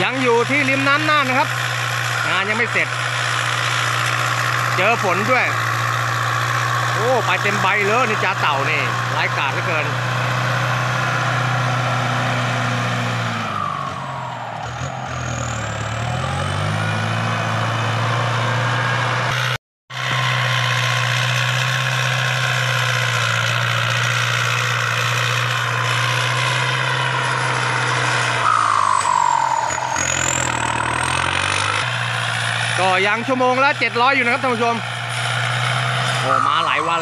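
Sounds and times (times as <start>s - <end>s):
tractor diesel engine labouring: 0.0s - 37.0s.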